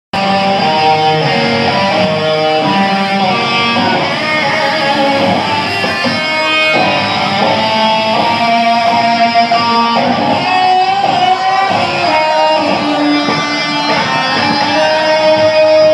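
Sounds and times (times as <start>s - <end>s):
electric guitar sustained notes: 0.2s - 15.9s
live band playing: 0.2s - 15.9s.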